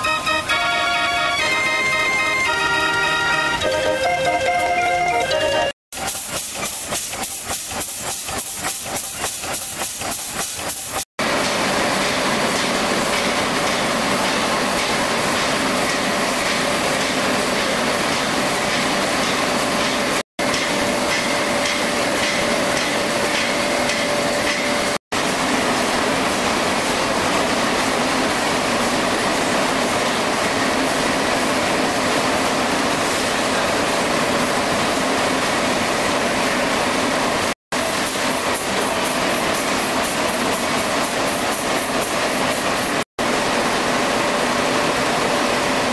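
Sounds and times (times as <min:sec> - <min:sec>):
steam engines hissing: 0:00.0 - 0:04.3, 0:05.0 - 0:43.0
machinery noise: 0:00.0 - 0:45.9.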